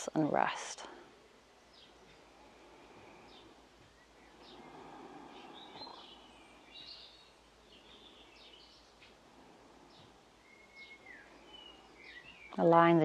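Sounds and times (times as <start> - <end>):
low outdoor hush: 0.0 - 13.0
birds chirping: 1.2 - 13.0.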